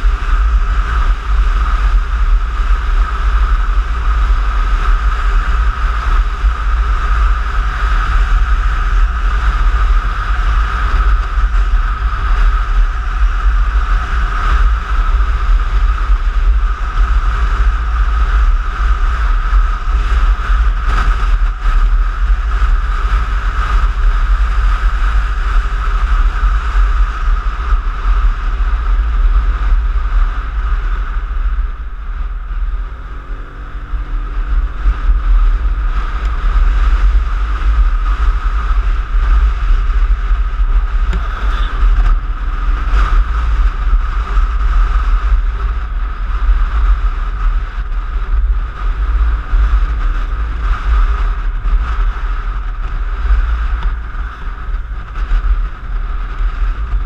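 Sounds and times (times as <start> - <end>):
scooter engine: 0.0 - 57.0
wind rumble on microphone: 0.0 - 57.0.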